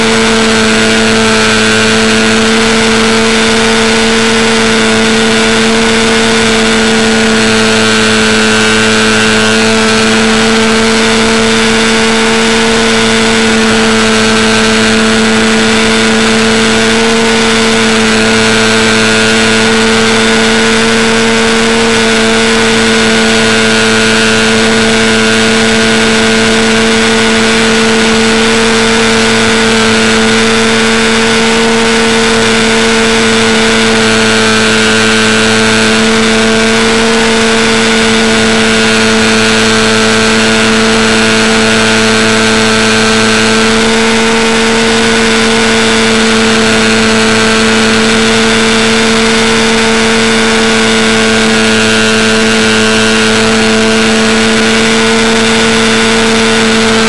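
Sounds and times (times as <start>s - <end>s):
model plane electric motor and propeller: 0.0s - 57.0s.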